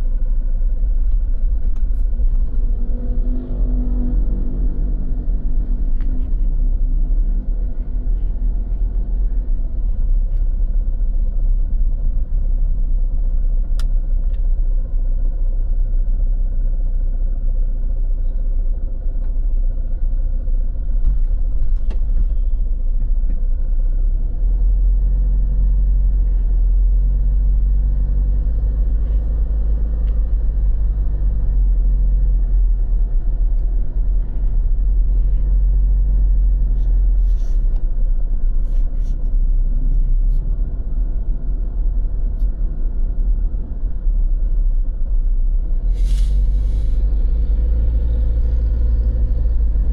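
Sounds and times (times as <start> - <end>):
motor vehicle rumbling: 0.0 - 49.9.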